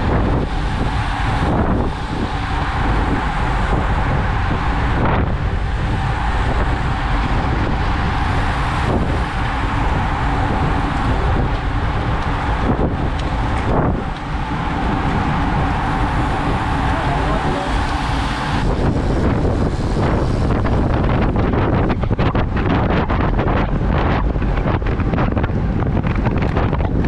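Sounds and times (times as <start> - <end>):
tyre and road noise: 0.0 - 27.0
wind buffeting microphone: 0.0 - 27.0.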